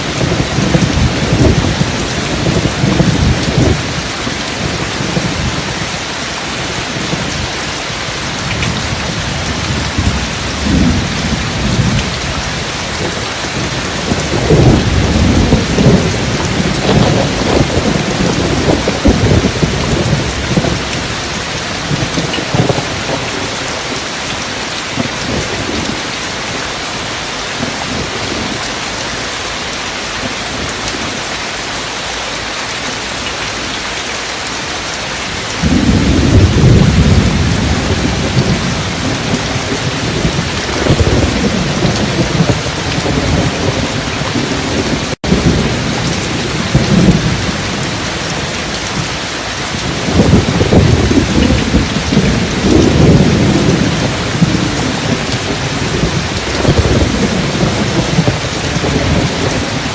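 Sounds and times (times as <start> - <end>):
deep rolling thunder: 0.0 - 6.0, 6.6 - 29.3, 35.2 - 59.9
heavy rain: 0.0 - 59.9.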